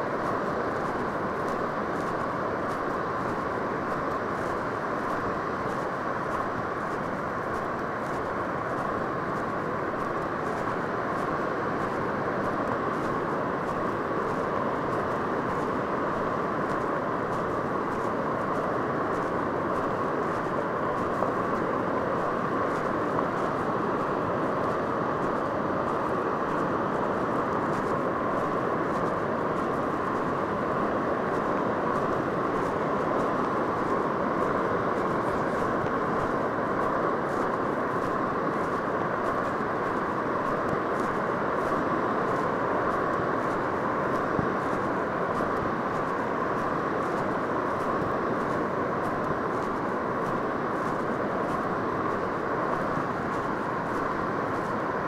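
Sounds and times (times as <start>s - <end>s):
ocean surf roaring: 0.0s - 55.0s
wind on a beach: 0.0s - 55.0s.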